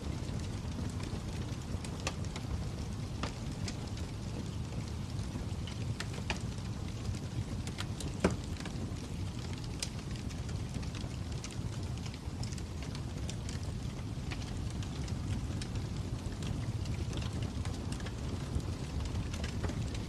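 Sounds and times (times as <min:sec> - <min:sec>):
fire popping and snapping: 0:00.0 - 0:20.0
low rumble of flames: 0:00.0 - 0:20.0.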